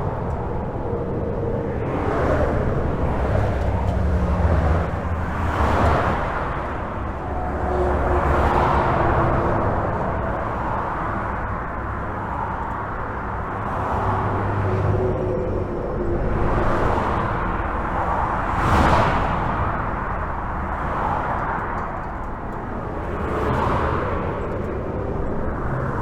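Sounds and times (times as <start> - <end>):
highway traffic rushing: 0.0 - 26.0
low engine drone: 0.0 - 26.0
vehicles passing: 0.0 - 26.0.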